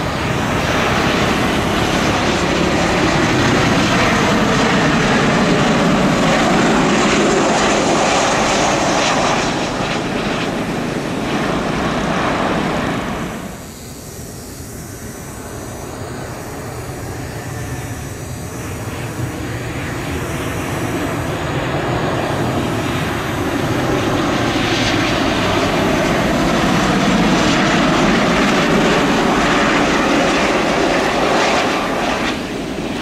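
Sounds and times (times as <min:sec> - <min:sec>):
jet engines rumbling and whining: 0:00.0 - 0:33.0.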